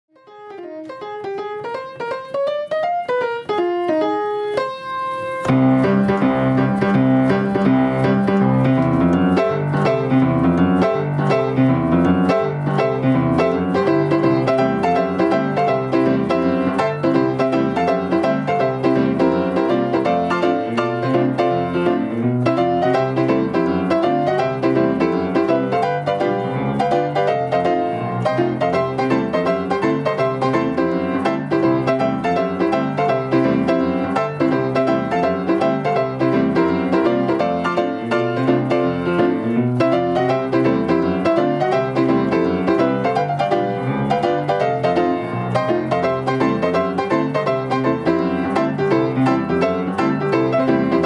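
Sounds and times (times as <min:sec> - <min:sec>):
piano music: 0:00.1 - 0:51.0.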